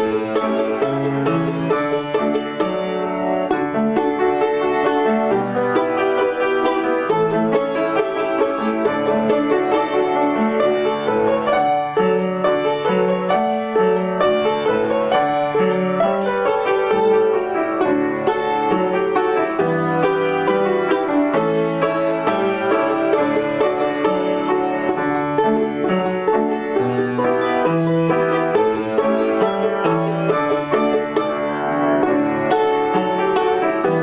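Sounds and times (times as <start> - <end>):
piano chords: 0.0 - 34.0
plucked string instrument: 0.0 - 34.0.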